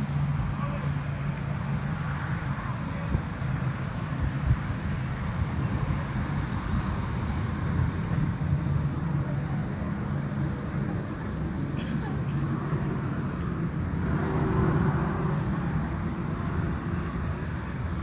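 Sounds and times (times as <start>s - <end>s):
constant low hum: 0.0s - 18.0s
low engine rumble: 0.0s - 18.0s.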